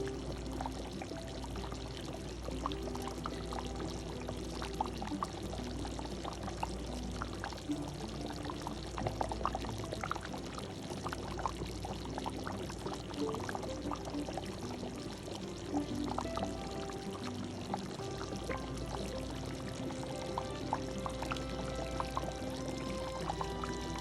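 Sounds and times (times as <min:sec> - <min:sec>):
sauce bubbling and popping: 0:00.0 - 0:24.0.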